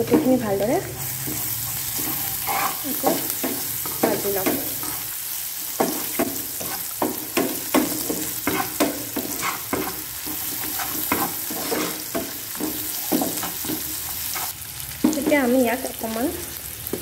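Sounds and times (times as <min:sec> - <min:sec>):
spatula scraping and knocking pan: 0:00.0 - 0:05.1, 0:05.7 - 0:15.5
onions sizzling in oil: 0:00.0 - 0:17.0.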